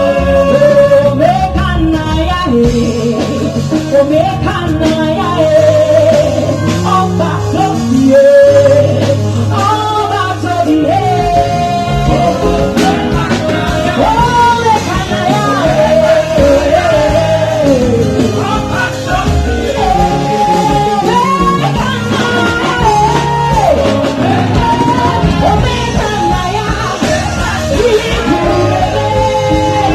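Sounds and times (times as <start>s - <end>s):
band with bass and drums: 0.0s - 29.9s
person singing gospel: 0.0s - 29.9s.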